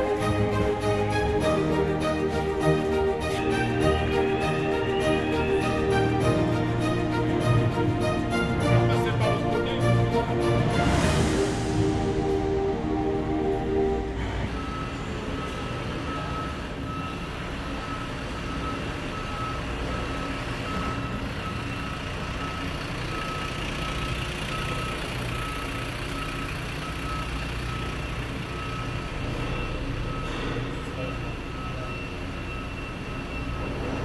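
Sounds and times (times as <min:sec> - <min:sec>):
bus engine running: 0:00.0 - 0:34.0
bus reversing alarm beeping: 0:00.0 - 0:34.0.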